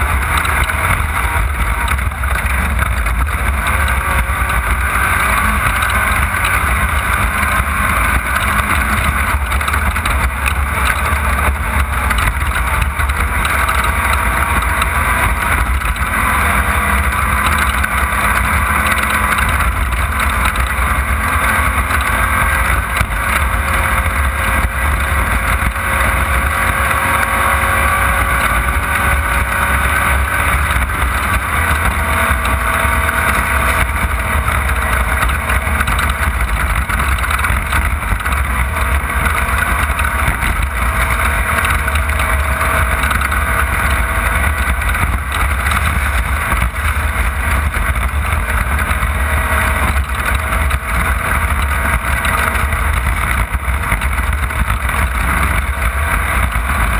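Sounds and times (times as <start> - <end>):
low rumble: 0.0 - 56.9
race car engine revving: 0.0 - 56.9.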